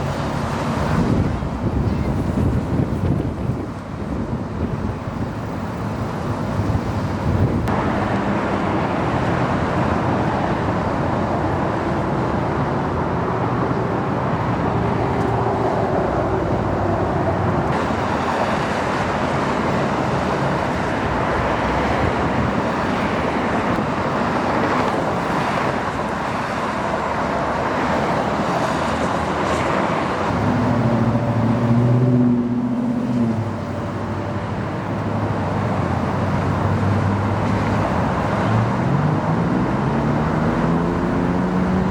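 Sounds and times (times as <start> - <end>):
freeway traffic roar: 0.0 - 41.9
vehicle engine hum: 0.0 - 41.9.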